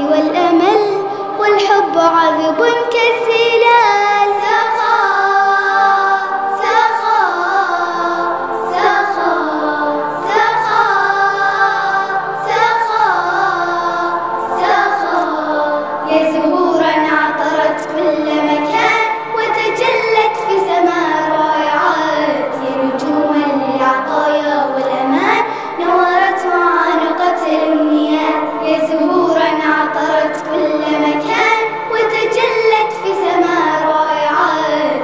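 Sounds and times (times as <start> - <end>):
girls choir singing: 0.0 - 35.0
musical backing: 0.0 - 35.0.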